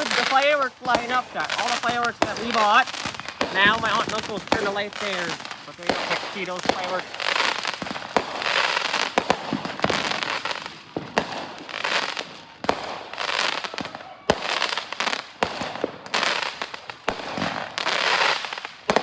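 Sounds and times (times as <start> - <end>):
fireworks cracks and bangs: 0.0 - 19.0
fireworks hissing and crackle: 0.0 - 19.0.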